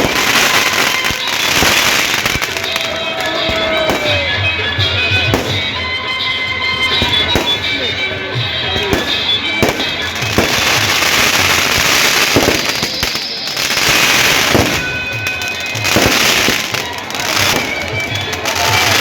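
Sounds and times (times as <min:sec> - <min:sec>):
fireworks hissing crackle: 0:00.0 - 0:05.8, 0:08.8 - 0:19.0
fireworks bangs: 0:00.0 - 0:19.0
music: 0:00.0 - 0:19.0.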